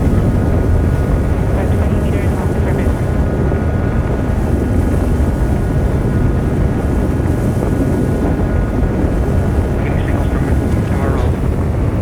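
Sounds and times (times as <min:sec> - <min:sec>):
dense low rumble: 0:00.0 - 0:12.0.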